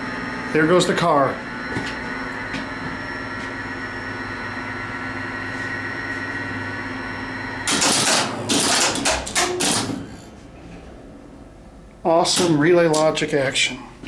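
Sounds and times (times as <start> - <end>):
elevator machine humming whine: 0.0 - 14.0.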